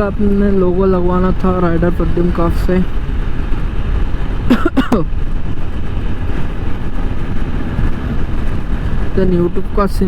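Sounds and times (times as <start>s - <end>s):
motorcycle engine rumble: 0.0s - 10.0s
wind and road noise: 0.0s - 10.0s.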